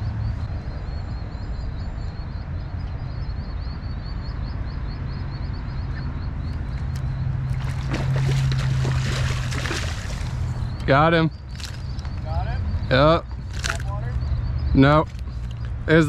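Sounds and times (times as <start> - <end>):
small bird chirping rapidly: 1.3 - 16.0.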